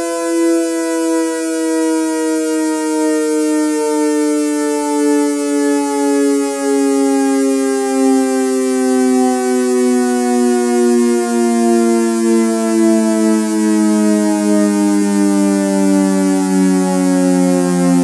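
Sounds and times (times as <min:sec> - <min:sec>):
two-note siren chord with echo: 0:00.0 - 0:18.0.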